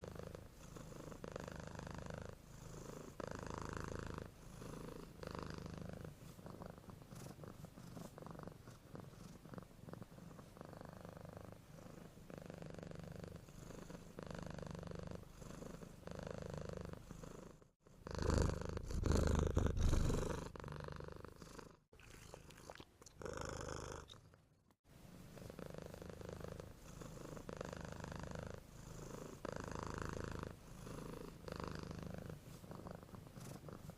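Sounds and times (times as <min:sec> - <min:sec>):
cat snoring: 0:00.0 - 0:21.9, 0:23.2 - 0:24.3, 0:25.3 - 0:33.9.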